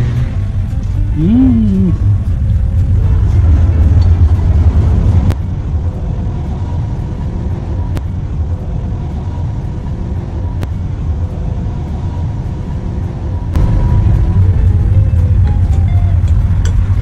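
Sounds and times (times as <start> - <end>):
low steady outdoor rumble: 0.0 - 17.0.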